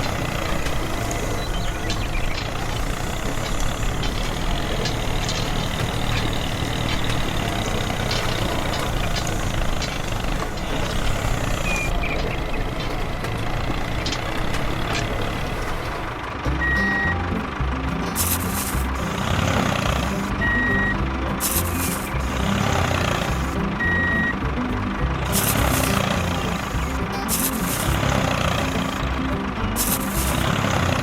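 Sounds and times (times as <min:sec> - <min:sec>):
low stepped drone: 0:00.0 - 0:31.0
model vehicle motor running: 0:00.0 - 0:31.0.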